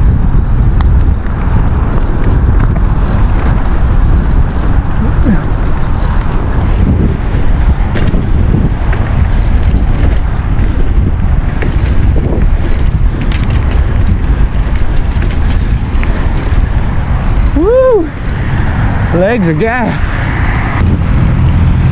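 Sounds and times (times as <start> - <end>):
bike clicks and rattles: 0.0 - 19.7
wind buffeting microphone: 0.0 - 21.9.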